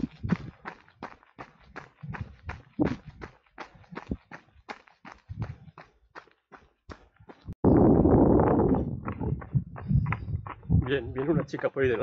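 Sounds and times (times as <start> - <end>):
runner's footsteps: 0.0 - 12.0.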